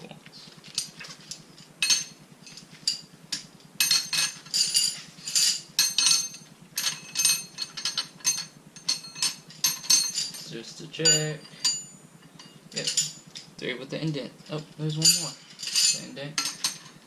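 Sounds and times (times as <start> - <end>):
metal bolts clinking: 0.8 - 13.5, 14.9 - 17.0.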